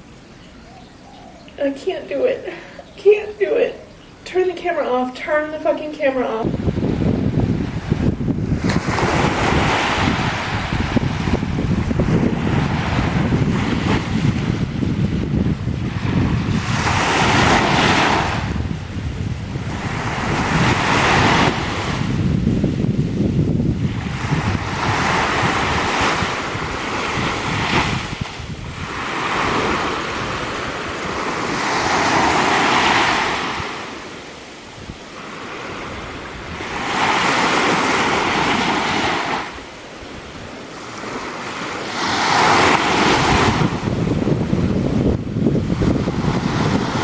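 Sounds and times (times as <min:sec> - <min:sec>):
wind buffeting microphone: 0:00.0 - 0:47.0
ocean waves breaking on beach: 0:05.4 - 0:47.0.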